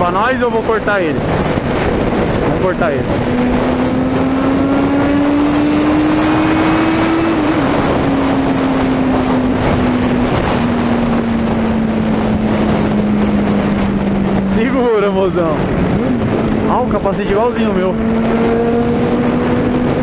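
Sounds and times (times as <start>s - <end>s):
motorcycle engine running: 0.0s - 20.0s
wind rushing: 0.0s - 20.0s.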